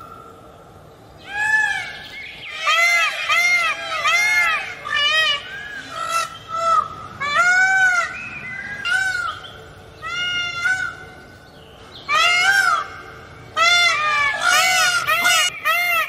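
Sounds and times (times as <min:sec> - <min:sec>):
peafowl honking calls: 0:01.2 - 0:11.3, 0:12.0 - 0:16.0.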